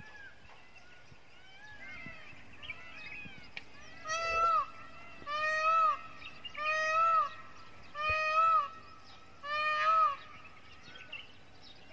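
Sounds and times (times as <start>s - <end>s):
peafowl calling: 0.0s - 11.2s.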